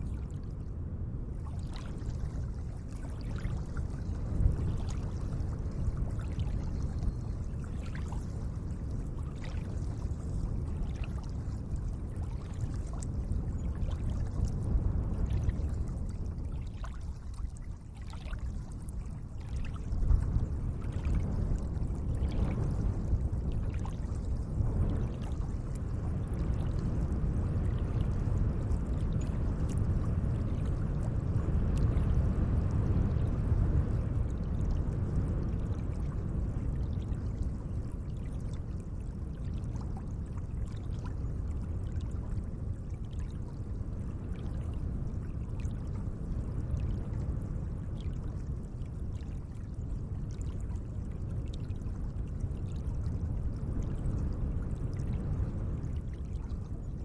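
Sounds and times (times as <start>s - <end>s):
small water ticks: 1.4s - 47.3s.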